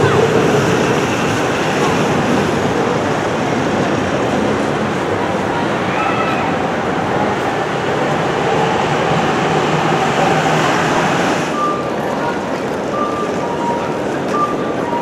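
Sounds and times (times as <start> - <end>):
electric train rolling: 0.0 - 15.0.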